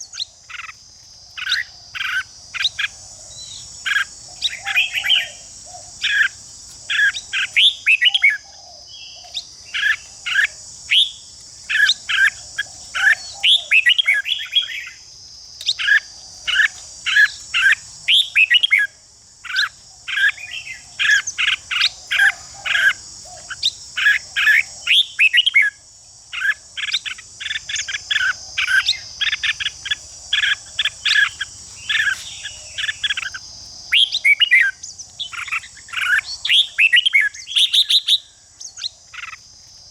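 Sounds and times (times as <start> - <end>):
high-pitched hiss: 0.0 - 39.9
birds singing warbled phrases: 1.4 - 15.1, 15.7 - 39.4.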